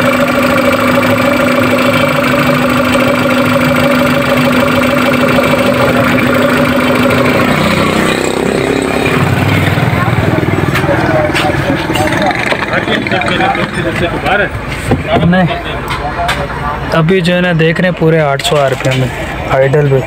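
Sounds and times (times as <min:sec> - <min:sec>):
car engine idling: 0:00.0 - 0:16.7.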